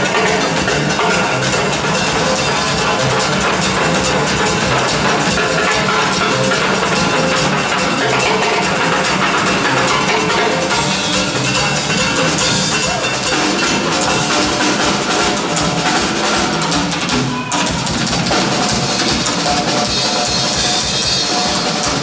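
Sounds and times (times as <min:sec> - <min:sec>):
live band music: 0:00.0 - 0:22.0.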